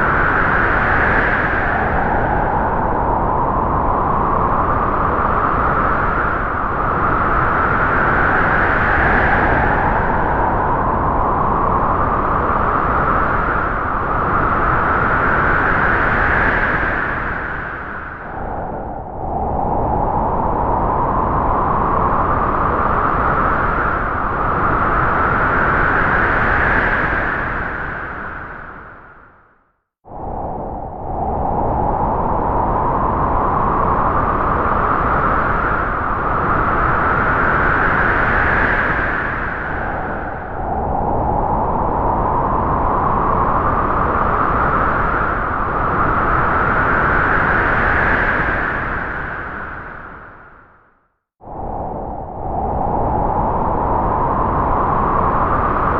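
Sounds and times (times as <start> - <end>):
strong wind howling: 0.0 - 55.9.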